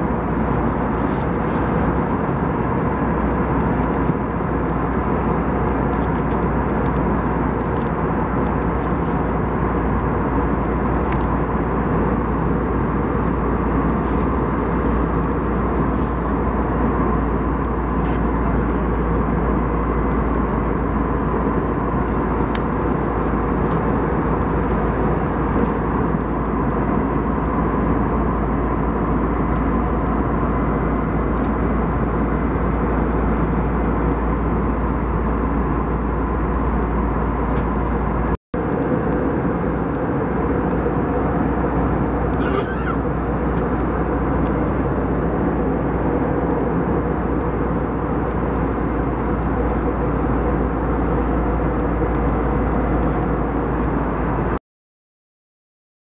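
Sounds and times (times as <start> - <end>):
airplane engines and cabin air drone: 0.0 - 54.6.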